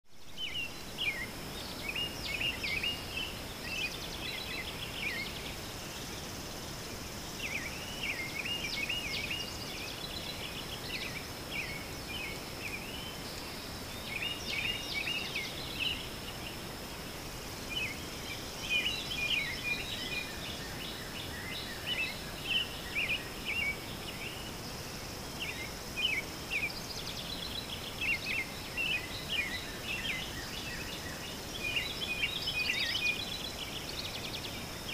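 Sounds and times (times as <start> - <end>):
low background hiss: 0.1 - 34.9.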